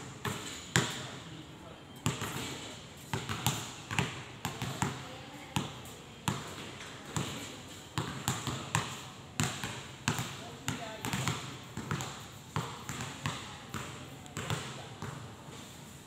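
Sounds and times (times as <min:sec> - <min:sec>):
basketballs bouncing on hard court: 0:00.0 - 0:01.2, 0:02.0 - 0:15.3.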